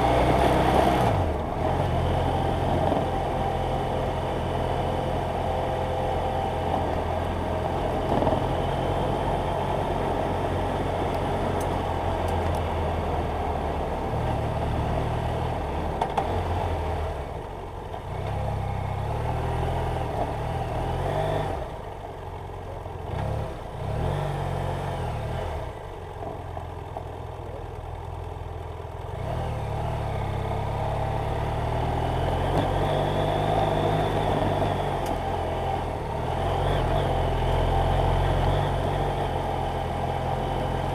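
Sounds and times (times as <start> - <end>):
motorcycle engine revving: 0.0 - 22.0, 23.0 - 25.9, 29.0 - 40.9
wind and road noise: 0.0 - 40.9.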